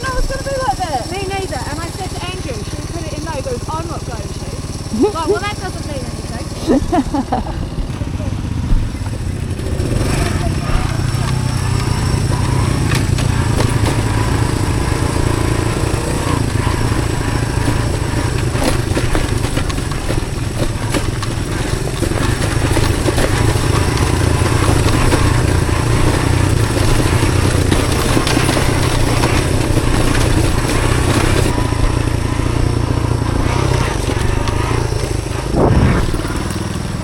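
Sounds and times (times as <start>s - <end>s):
knocks and rattles: 0.0s - 37.0s
small motorbike engine running: 0.0s - 37.0s.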